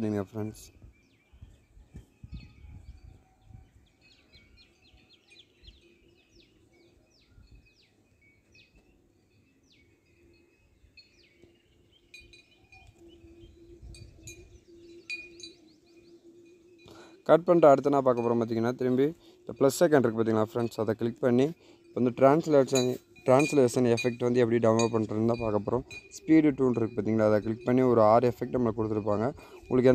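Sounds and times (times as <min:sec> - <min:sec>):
faint bird chirping: 0:00.0 - 0:29.9.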